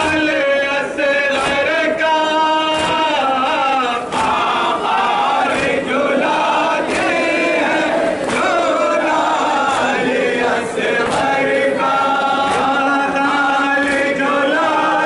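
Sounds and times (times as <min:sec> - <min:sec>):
male crowd chanting: 0:00.0 - 0:15.0.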